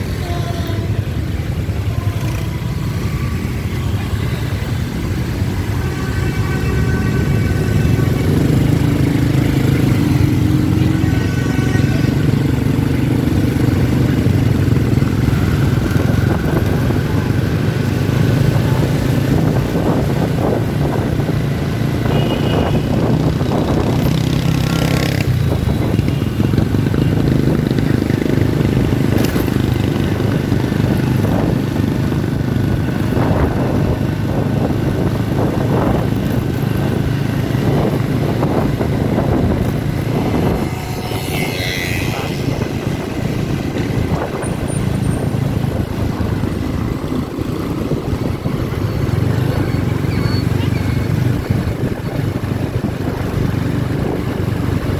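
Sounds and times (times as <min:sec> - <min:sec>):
motorbike engines in traffic: 0:00.0 - 0:54.9.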